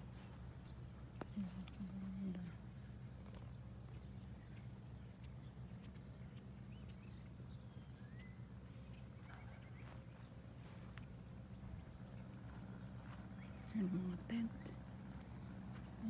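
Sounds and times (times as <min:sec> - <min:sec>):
faint bird chirps: 0:00.0 - 0:16.0
low steady rumble: 0:00.0 - 0:16.0.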